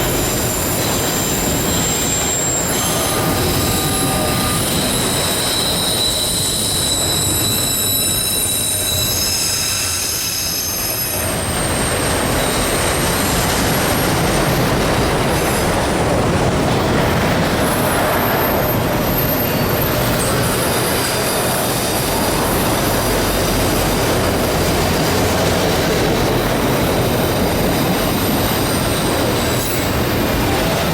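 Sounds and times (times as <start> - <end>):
train wheels rumbling on rails: 0.0 - 30.9
train wheels squealing: 0.0 - 30.9.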